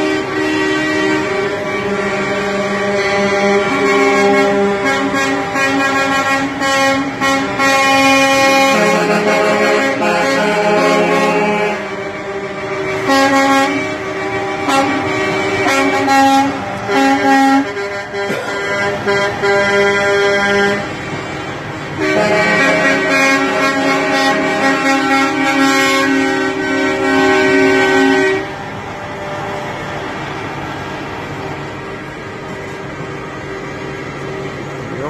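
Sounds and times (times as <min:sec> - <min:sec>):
truck air horns blowing: 0:00.0 - 0:33.2.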